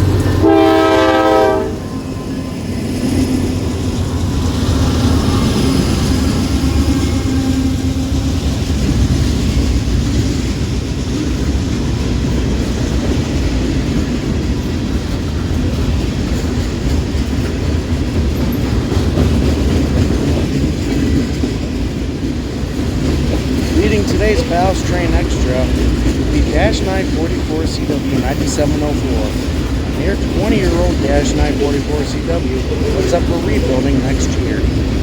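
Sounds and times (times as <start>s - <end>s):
freight train rumbling past: 0.0s - 35.0s
wheels clacking over track: 2.4s - 35.0s.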